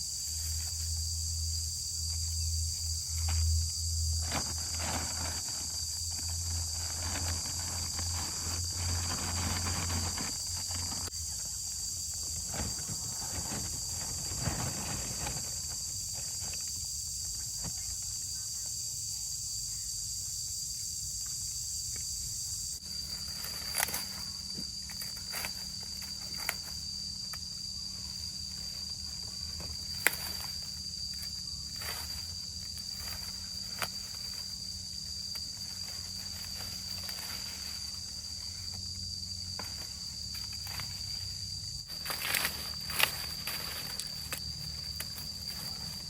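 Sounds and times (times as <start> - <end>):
insects chorus: 0.0 - 46.0.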